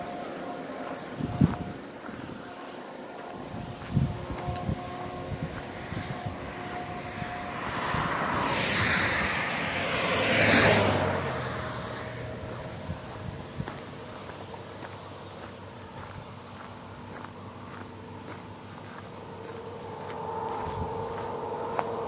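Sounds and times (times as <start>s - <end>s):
vehicle passing by: 0.0s - 22.0s.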